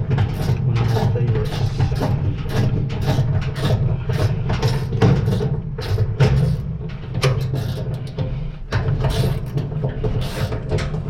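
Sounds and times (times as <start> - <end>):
hand ratchet clicking: 0.0 - 8.2, 8.9 - 11.0
steady low hum: 0.0 - 11.0.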